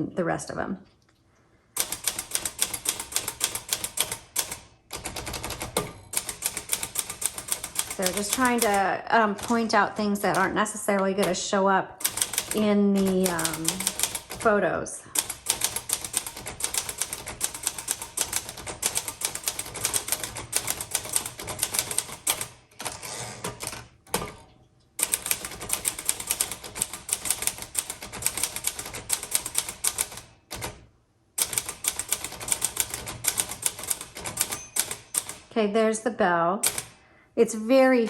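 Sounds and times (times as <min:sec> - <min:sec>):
manual typewriter typing fast: 0:01.8 - 0:24.4, 0:25.0 - 0:30.8, 0:31.4 - 0:35.5, 0:36.6 - 0:37.0.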